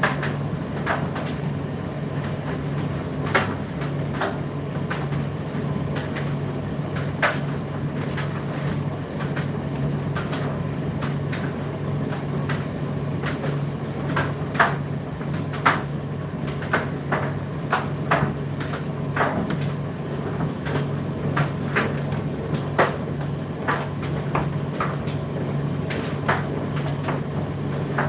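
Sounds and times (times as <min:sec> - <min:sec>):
tumble dryer motor hum: 0:00.0 - 0:28.0.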